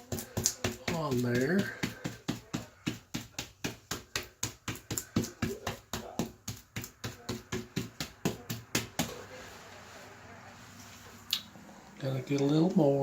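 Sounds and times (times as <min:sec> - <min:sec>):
brush dabbing wet compound on wall: 0:00.0 - 0:11.3.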